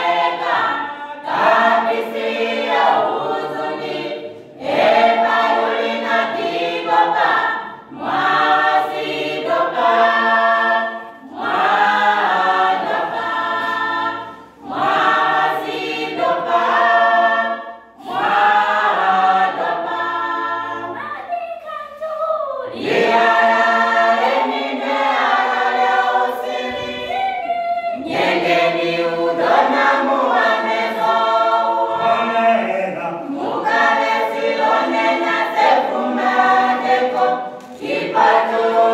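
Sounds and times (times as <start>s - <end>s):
choir singing a cappella: 0.0s - 22.0s, 22.6s - 38.9s.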